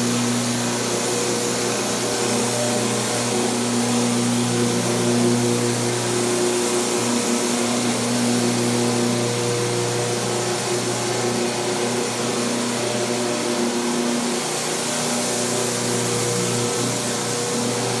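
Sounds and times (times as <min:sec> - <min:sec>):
floor scrubber running: 0:00.0 - 0:18.0.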